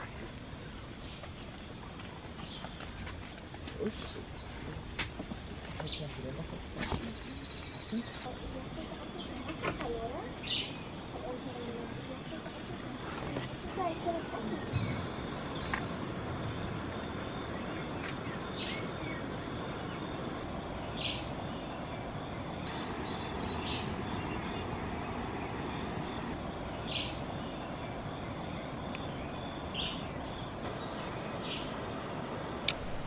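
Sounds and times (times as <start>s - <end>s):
background hiss: 0.0s - 33.0s.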